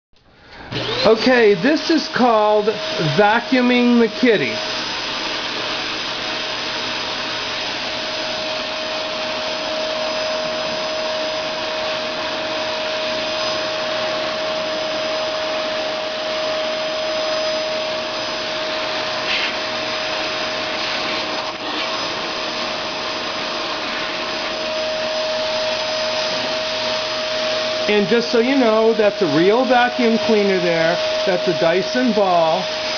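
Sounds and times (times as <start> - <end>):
vacuum cleaner running: 0.4 - 32.9.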